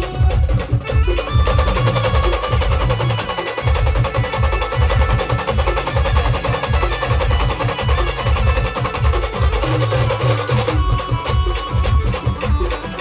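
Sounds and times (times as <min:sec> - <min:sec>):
fast heavy drumming: 0:00.0 - 0:13.0
held melody line: 0:00.0 - 0:13.0.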